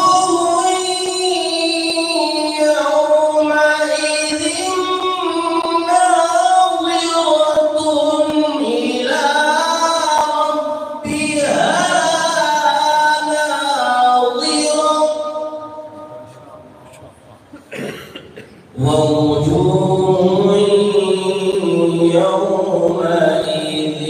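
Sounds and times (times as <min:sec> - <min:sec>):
man reciting melodically: 0:00.0 - 0:17.2, 0:18.7 - 0:24.0.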